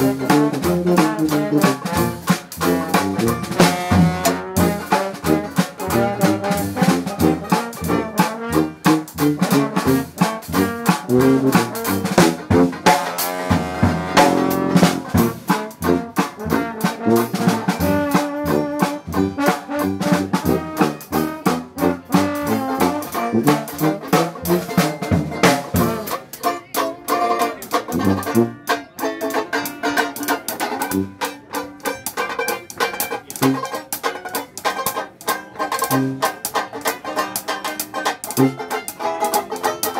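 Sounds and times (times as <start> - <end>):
banjo: 0.0 - 39.9
jazz band playing: 0.0 - 39.9
trombone: 0.0 - 39.9.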